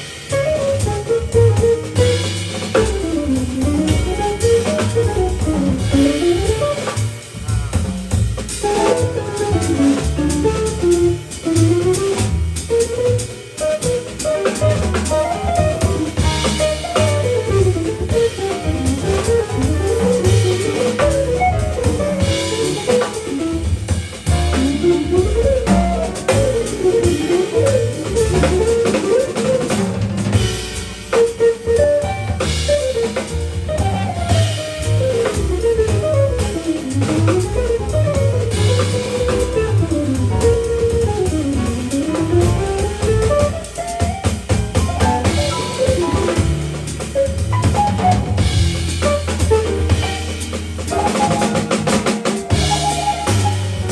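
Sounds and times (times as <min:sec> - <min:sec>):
drum kit: 0:00.0 - 0:53.9
upright bass: 0:00.0 - 0:53.9.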